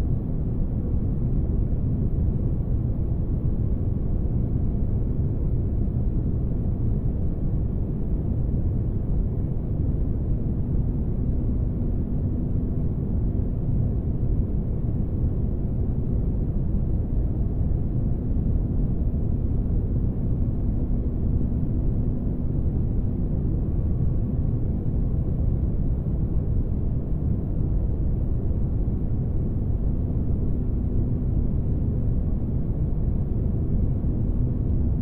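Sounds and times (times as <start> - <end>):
faint hum: 0.0 - 35.0.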